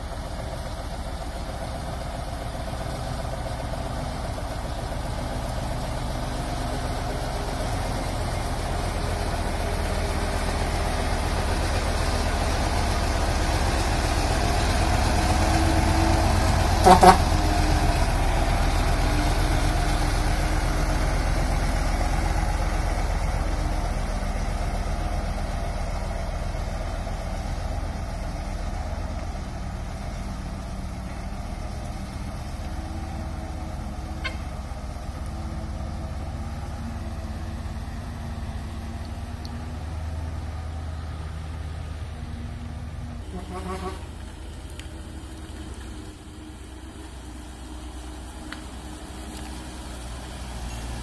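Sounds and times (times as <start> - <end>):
diesel truck engine rumbling: 0.0 - 51.0.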